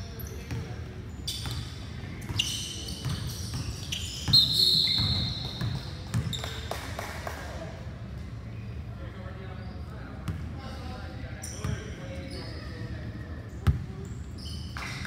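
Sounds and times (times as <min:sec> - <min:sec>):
sneakers squeaking: 0:00.0 - 0:06.8, 0:08.5 - 0:15.0.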